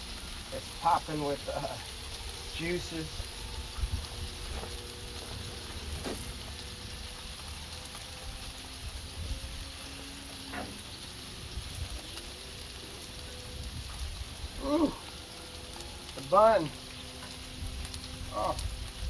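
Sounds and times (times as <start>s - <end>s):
burger patty sizzling: 0.0s - 19.0s.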